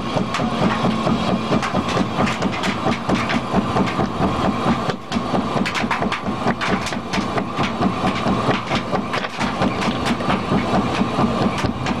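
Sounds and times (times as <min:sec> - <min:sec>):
briquette press rumbling and clattering: 0:00.0 - 0:12.0.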